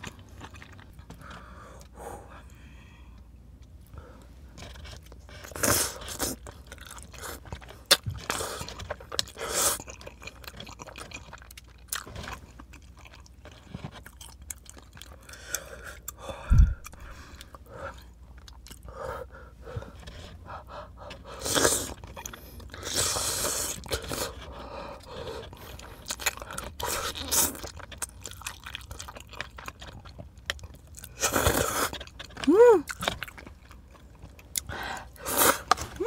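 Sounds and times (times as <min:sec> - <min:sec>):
person chewing: 0:04.5 - 0:36.0.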